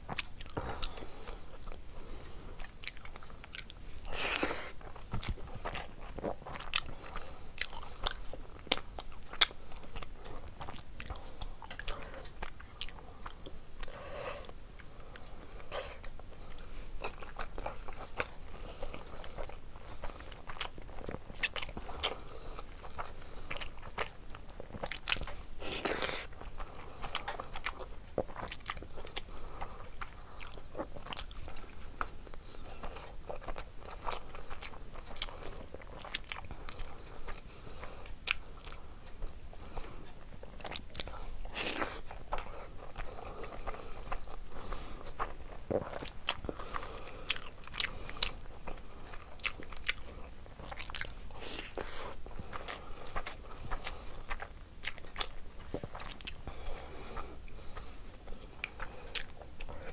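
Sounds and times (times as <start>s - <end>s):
wet chewing: 0.1s - 59.9s.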